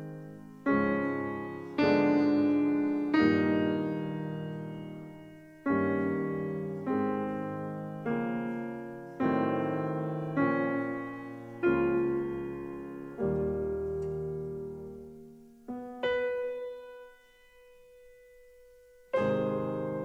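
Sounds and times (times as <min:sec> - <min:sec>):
slow solo piano chords: 0:00.0 - 0:20.0.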